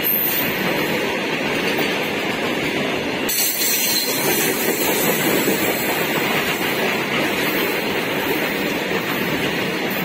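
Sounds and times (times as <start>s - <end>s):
freight wagons rumbling on rails: 0.0s - 10.0s.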